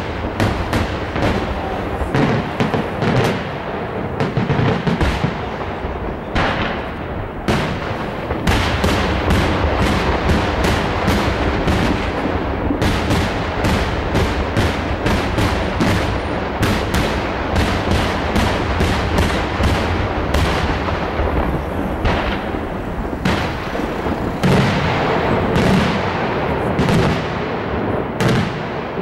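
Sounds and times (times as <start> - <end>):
fireworks cracks and bangs: 0.0 - 29.0.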